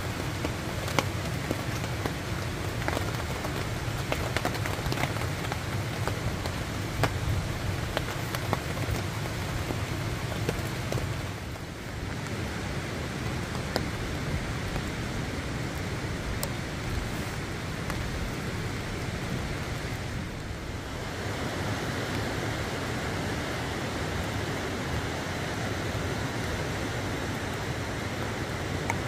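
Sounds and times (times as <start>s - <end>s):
rain hissing on a tarp: 0.0s - 29.0s.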